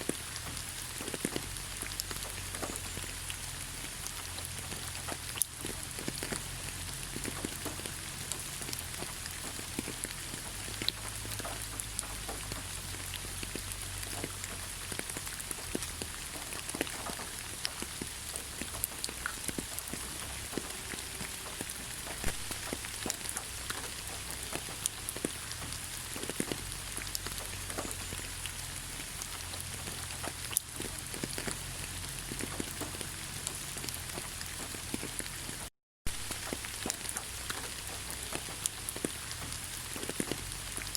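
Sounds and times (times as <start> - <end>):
rain hissing: 0.0 - 40.9
raindrops tapping: 0.0 - 40.9.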